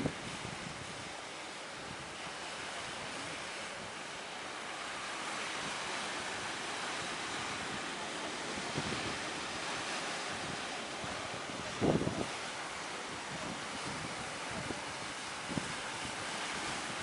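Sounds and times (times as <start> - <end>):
rough sea waves surging: 0.0 - 17.0
strong wind: 0.0 - 17.0.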